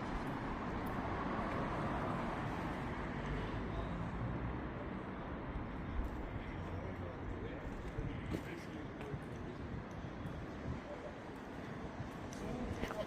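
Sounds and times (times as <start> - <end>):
low traffic hum: 0.0 - 13.0.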